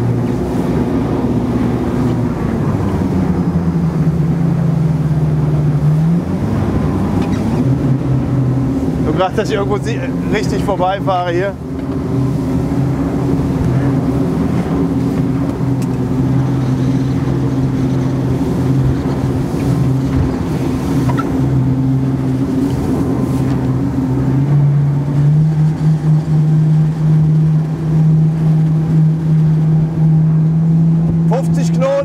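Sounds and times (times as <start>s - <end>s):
outboard boat engines running: 0.0s - 32.0s.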